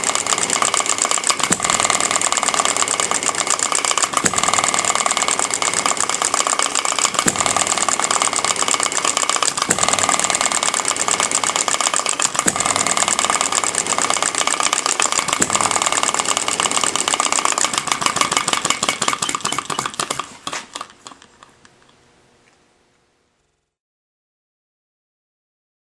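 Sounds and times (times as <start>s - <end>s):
engine firing stroke: 0.0s - 21.5s
engine mechanical clatter: 0.0s - 22.0s.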